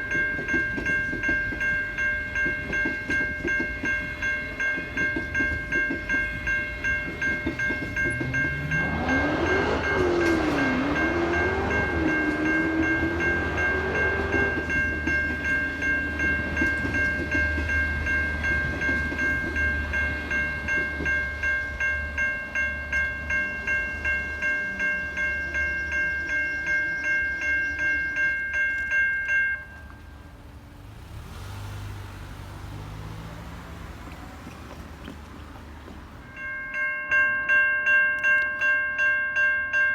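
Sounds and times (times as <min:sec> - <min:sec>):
passing train rumble: 0:00.0 - 0:39.8
level crossing bells ringing: 0:00.0 - 0:39.9.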